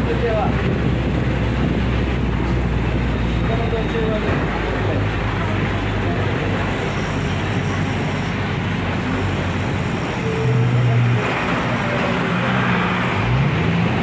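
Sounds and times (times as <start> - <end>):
louder vehicle engine: 0.0 - 14.0
road traffic din: 0.0 - 14.0.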